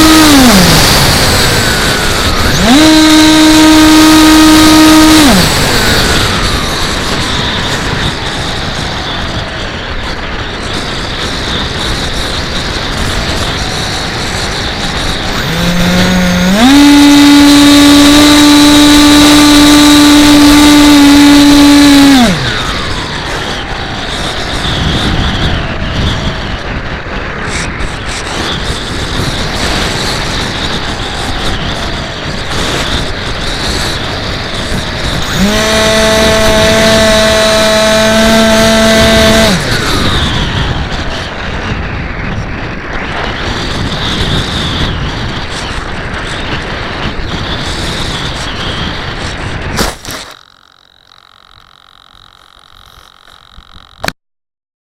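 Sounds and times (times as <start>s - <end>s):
electric motor whining: 0.0s - 26.9s, 28.3s - 41.4s, 47.0s - 54.2s
wind on microphone: 0.0s - 50.2s.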